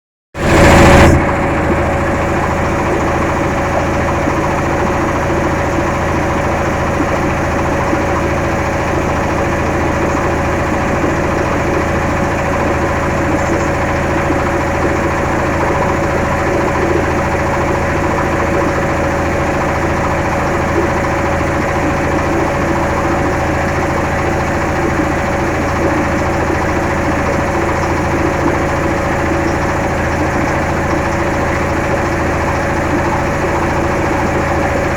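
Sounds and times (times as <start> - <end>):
engine running steadily: 0.4 - 34.9.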